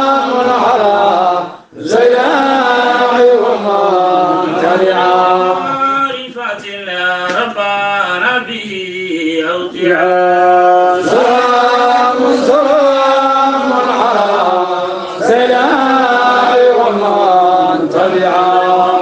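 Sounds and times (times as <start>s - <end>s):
man chanting devotional song: 0.0s - 19.0s.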